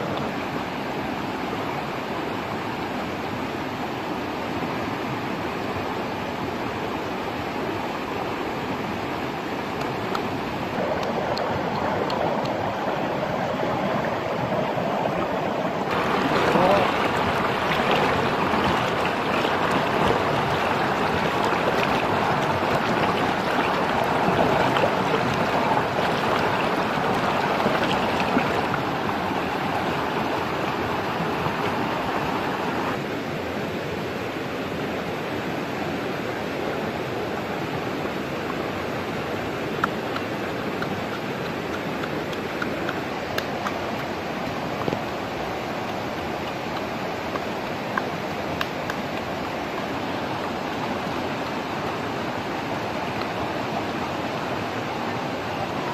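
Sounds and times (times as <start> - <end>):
water rushing over rocks: 0.0 - 55.9.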